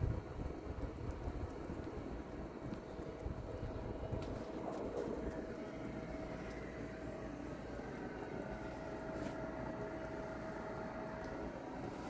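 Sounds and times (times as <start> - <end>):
faint steady hum: 0.0 - 12.0
low storm rumble: 0.0 - 12.0.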